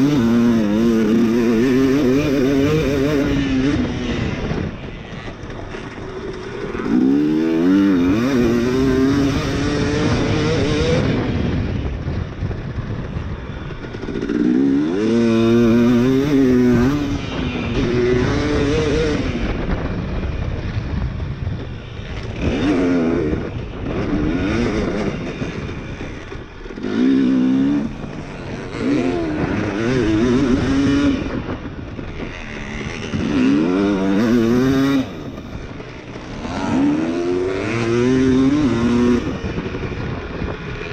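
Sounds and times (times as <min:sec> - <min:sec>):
dirt bike engine revving: 0:00.0 - 0:20.8, 0:21.5 - 0:40.9.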